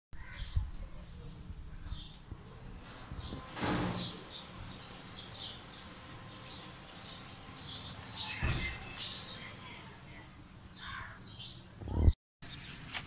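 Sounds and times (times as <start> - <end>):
small birds chirping: 0.2 - 12.8.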